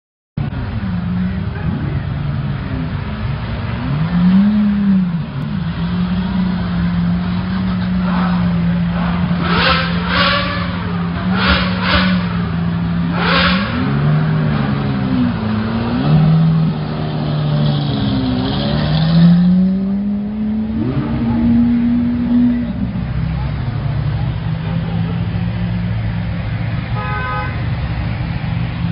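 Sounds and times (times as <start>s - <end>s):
car engines revving: 0.4s - 28.9s.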